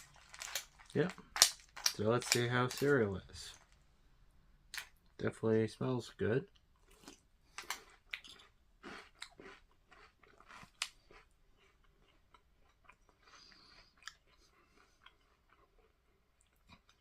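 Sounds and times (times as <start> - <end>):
person chewing crunchy cereal: 0.0 - 3.8, 6.8 - 17.0.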